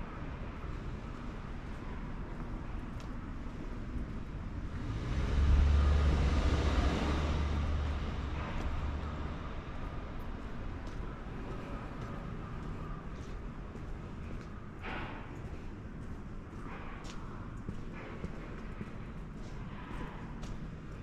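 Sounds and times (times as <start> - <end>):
faint street background: 0.0 - 21.0
vehicle engine and tyre rumble: 0.0 - 21.0.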